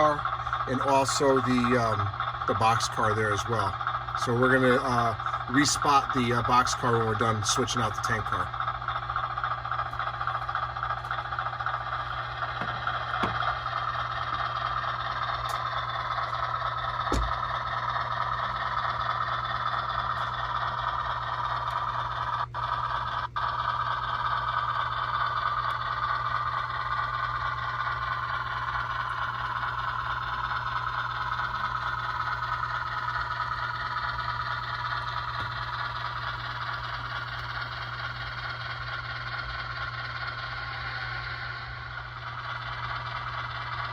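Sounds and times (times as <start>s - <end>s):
constant low hum: 0.0s - 43.9s
diesel engine drone from speaker: 0.0s - 43.9s.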